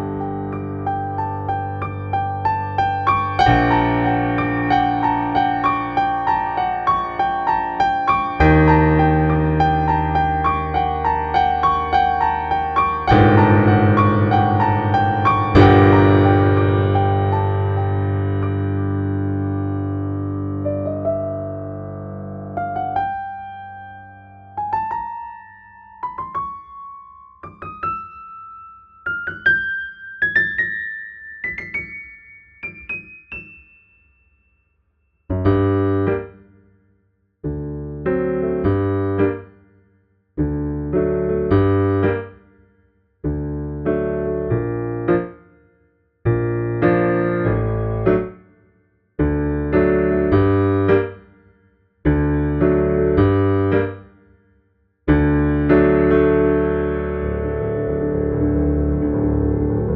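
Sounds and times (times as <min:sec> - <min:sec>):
piano music: 0:00.0 - 0:34.3, 0:35.3 - 0:36.5, 0:37.4 - 0:39.6, 0:40.4 - 0:42.4, 0:43.2 - 0:45.6, 0:46.2 - 0:48.5, 0:49.2 - 0:51.4, 0:52.1 - 0:54.1, 0:55.1 - 0:59.9.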